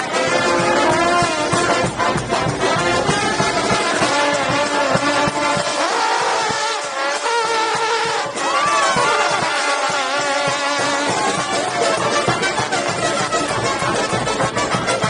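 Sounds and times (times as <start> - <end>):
brass band horns: 0.0 - 15.0
drum hits: 0.1 - 15.0.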